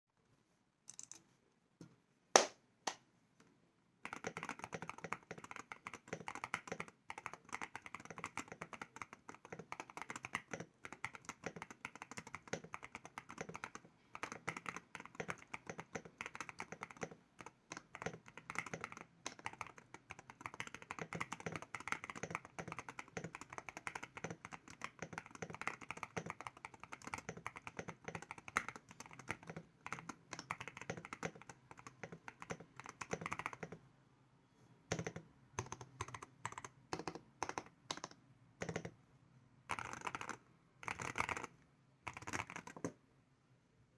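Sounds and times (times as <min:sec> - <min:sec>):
mechanical keyboard typing: 0:04.0 - 0:33.8, 0:34.9 - 0:39.0, 0:39.7 - 0:42.9.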